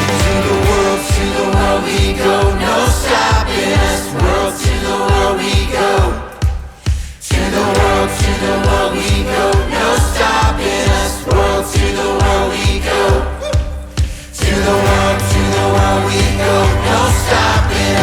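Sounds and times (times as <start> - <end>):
choir-like vocals: 0.0 - 18.0
music with steady beat: 0.0 - 18.0.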